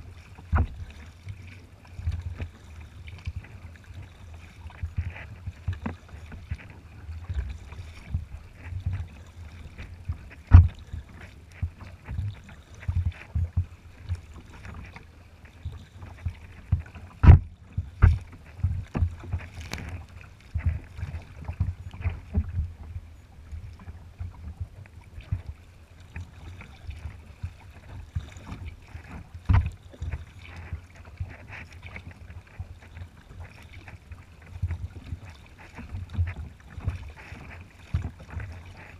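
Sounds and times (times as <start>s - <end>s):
water splashing against kayak hull: 0.0s - 38.9s
wind rumbling on microphone: 0.0s - 38.9s.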